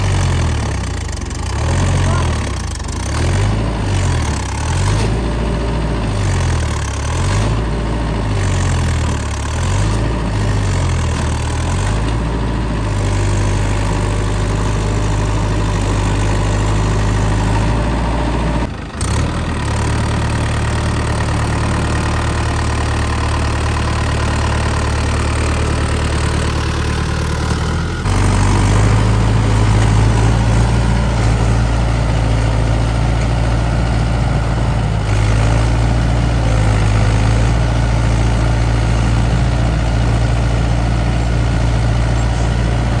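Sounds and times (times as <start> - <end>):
diesel tractor engines revving: 0.0 - 43.0.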